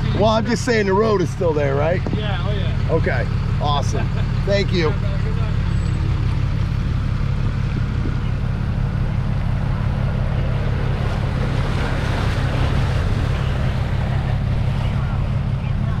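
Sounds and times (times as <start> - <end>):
vehicle engine drone: 0.0 - 16.0
water washing: 0.0 - 16.0.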